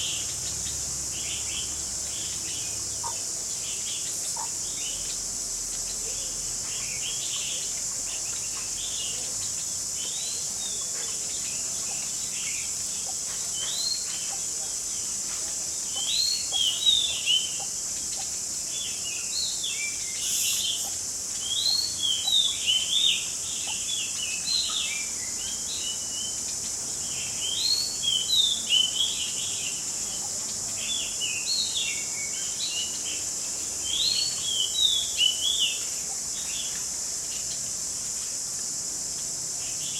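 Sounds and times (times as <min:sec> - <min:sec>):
songbird chirping: 0:00.0 - 0:39.9
steady high-pitched hiss: 0:00.0 - 0:39.9.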